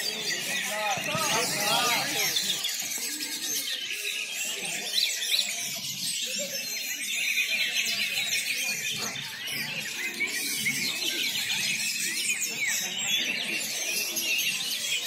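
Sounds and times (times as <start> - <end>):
murmur of people: 0.0 - 15.0
songbirds singing: 0.0 - 15.0.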